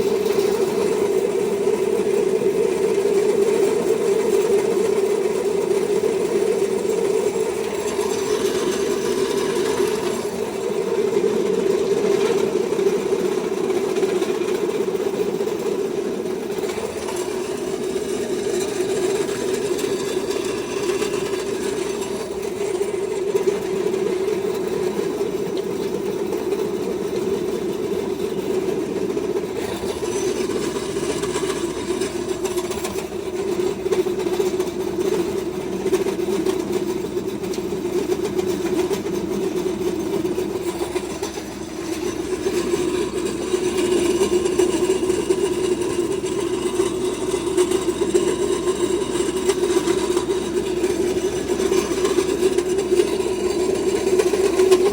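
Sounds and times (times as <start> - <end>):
pellet mill humming: 0.0 - 54.9.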